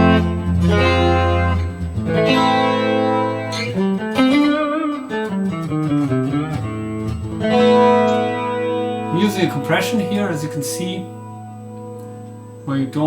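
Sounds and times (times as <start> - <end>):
clean electric guitar: 0.0 - 13.0.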